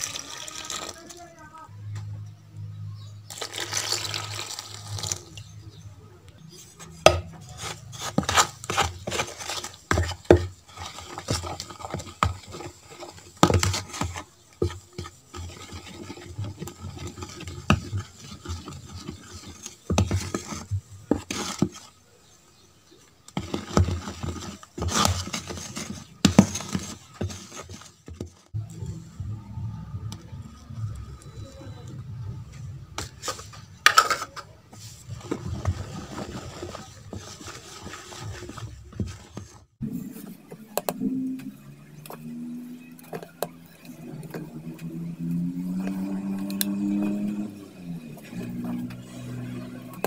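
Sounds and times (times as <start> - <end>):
spoon stirring thick batter: 0.0 - 50.0.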